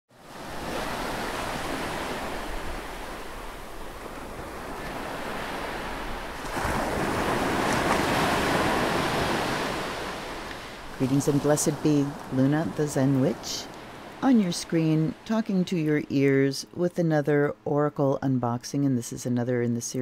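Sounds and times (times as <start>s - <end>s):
ocean waves washing in: 0.1s - 16.2s.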